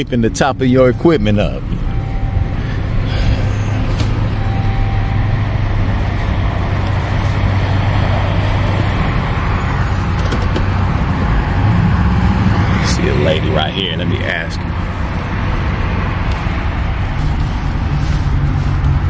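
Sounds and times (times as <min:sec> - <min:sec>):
diesel truck engine running: 0:00.0 - 0:19.0
road noise: 0:00.0 - 0:19.0.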